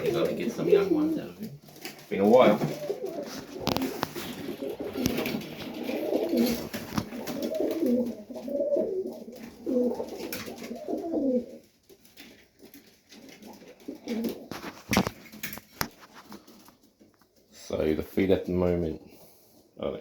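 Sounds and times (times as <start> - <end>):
pigeons cooing: 0.0 - 16.8.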